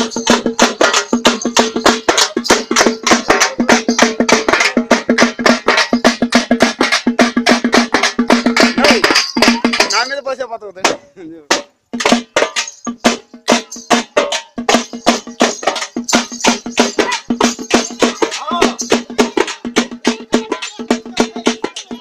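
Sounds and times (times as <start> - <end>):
drums beaten fast with sticks: 0.0 - 22.0.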